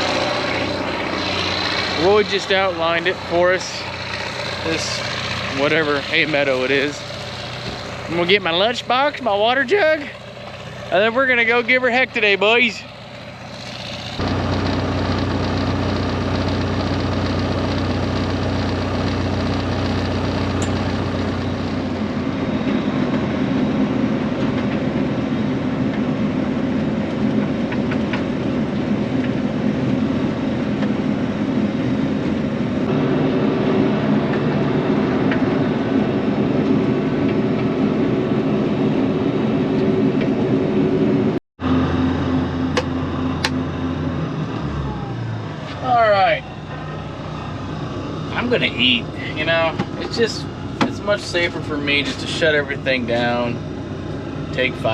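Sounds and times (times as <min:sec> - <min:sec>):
vehicle engine humming: 0:00.0 - 0:54.9.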